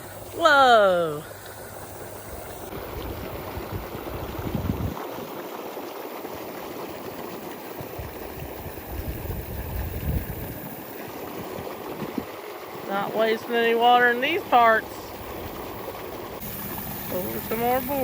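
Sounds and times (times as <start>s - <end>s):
water rushing out of a field: 0.0s - 18.0s.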